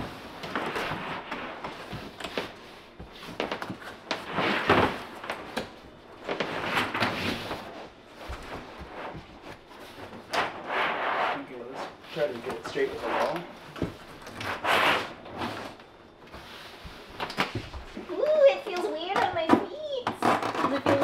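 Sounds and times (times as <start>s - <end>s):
plastic membrane rustling and rubbing: 0.0s - 21.0s.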